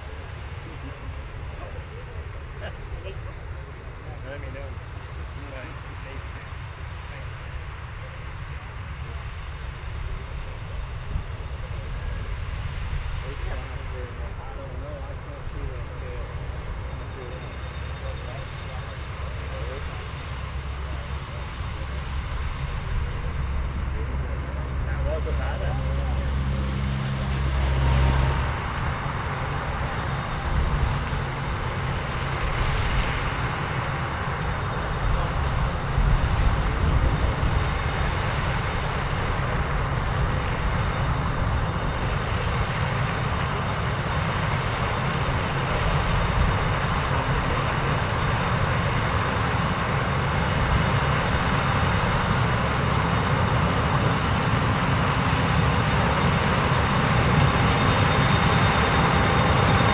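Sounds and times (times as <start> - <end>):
low engine rumble: 0.0 - 59.9.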